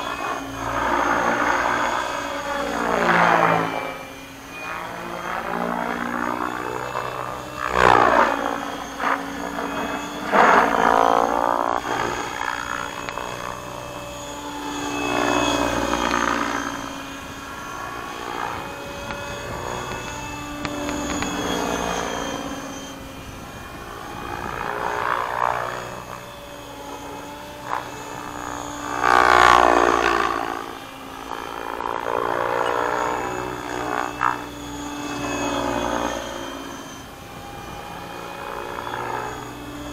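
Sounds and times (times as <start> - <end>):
electric motor whine: 0.0 - 39.9
helicopter rotor hum: 0.0 - 39.9.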